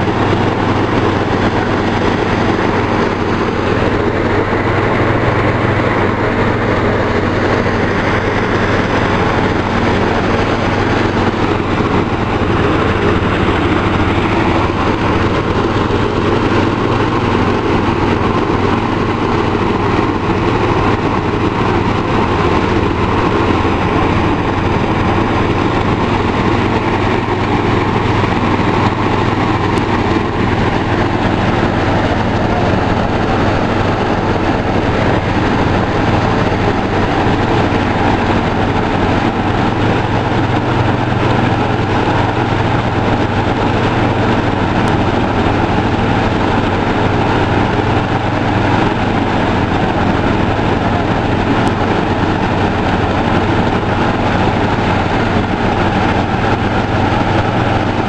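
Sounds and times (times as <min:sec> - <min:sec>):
thresher machine hum: 0:00.0 - 0:58.0.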